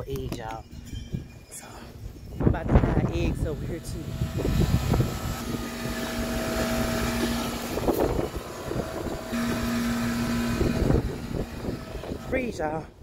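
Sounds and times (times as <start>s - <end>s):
wind rumbling on microphone: 0.0s - 13.0s
air conditioner unit humming: 2.5s - 13.0s.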